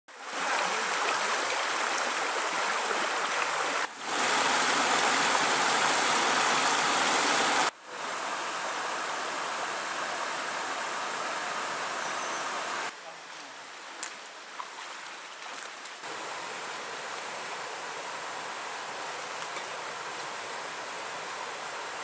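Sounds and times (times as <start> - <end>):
waterfall rushing: 0.2 - 12.9, 16.0 - 22.0.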